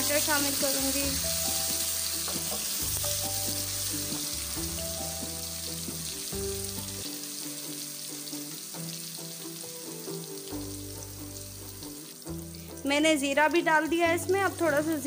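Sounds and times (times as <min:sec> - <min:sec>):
onions sizzling in oil: 0:00.0 - 0:15.0
soft background music: 0:00.0 - 0:15.0.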